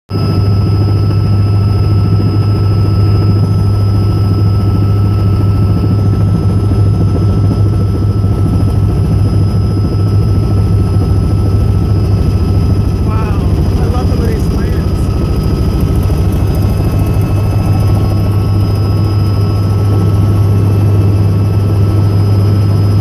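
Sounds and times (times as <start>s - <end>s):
helicopter rotor and engine drone: 0.1s - 23.0s.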